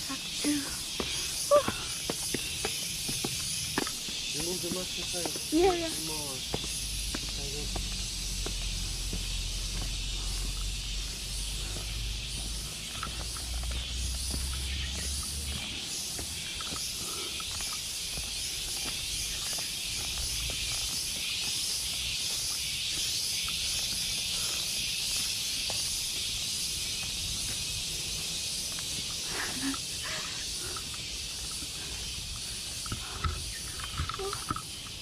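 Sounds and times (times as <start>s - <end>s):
insect chorus shrill drone: 0.0s - 35.0s.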